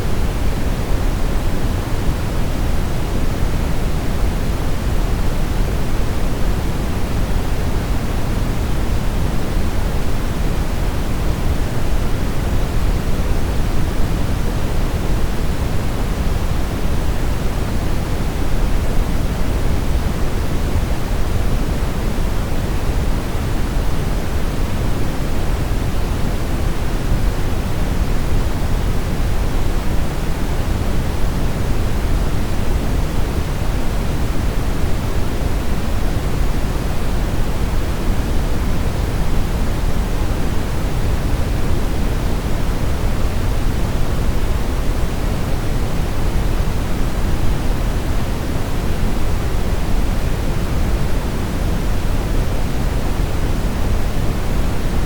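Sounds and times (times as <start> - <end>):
steady brown noise: 0.0 - 55.0.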